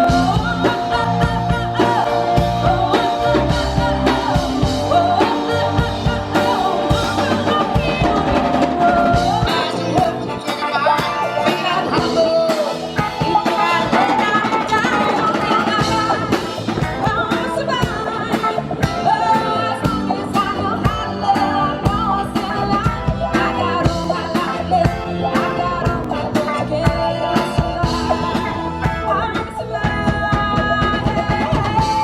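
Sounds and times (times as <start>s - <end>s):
rock and roll music with singing: 0.0s - 32.0s.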